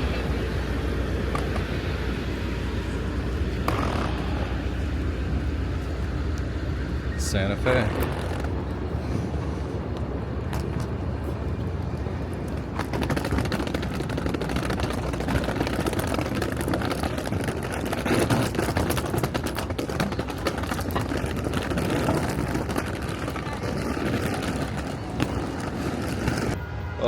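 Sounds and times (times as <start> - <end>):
cars going by: 0.0 - 27.0.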